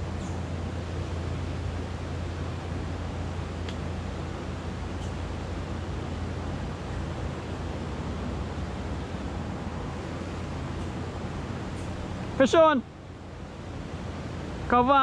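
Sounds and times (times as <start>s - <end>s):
highway traffic drone: 0.0s - 14.9s.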